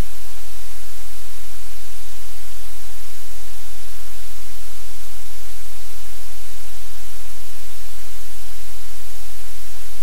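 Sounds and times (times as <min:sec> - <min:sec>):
low electrical hum: 0:00.0 - 0:10.0
static hiss: 0:00.0 - 0:10.0.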